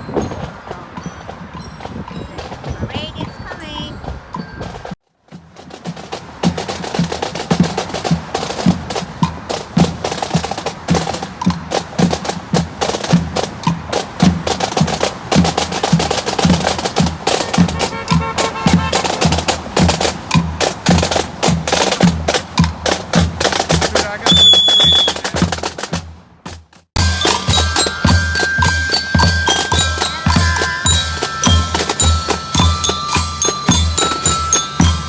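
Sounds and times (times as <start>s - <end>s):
snare drum strokes and rolls: 4.4s - 35.0s
bass drum beat: 5.4s - 35.0s.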